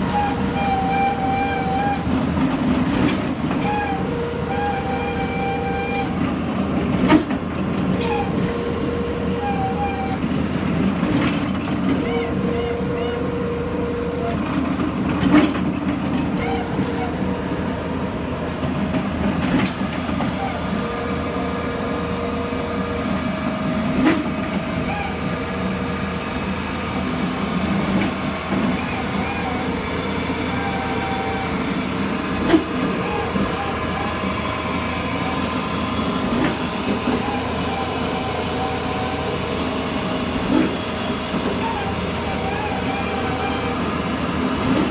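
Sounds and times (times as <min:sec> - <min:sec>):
machine motor droning: 0:00.0 - 0:44.9.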